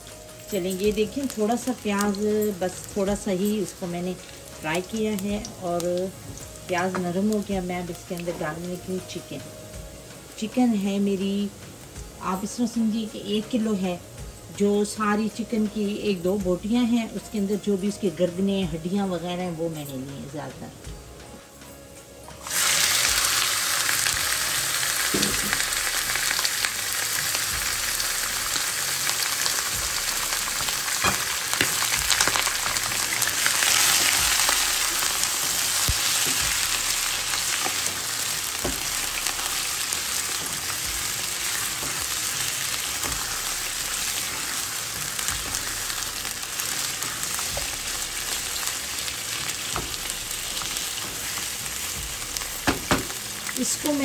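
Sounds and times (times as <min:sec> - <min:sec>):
chicken sizzling in hot oil: 0:00.0 - 0:16.4, 0:22.4 - 0:54.0.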